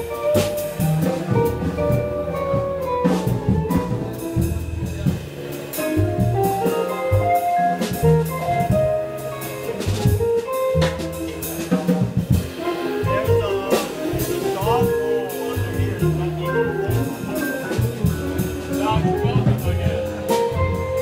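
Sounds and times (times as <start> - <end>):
jazz quartet playing live: 0.0 - 21.0.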